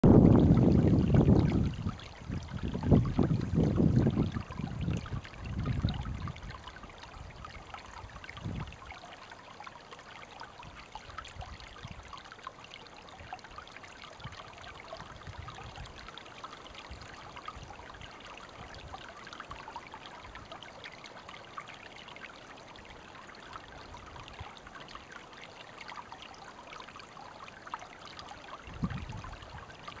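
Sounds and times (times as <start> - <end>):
creek trickling and babbling: 0.0 - 30.0.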